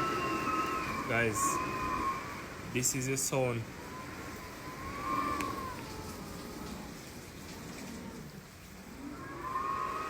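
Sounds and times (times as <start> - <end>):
wind howling whistle: 0.0 - 7.1, 8.9 - 10.0
wind rushing outside: 0.0 - 10.0.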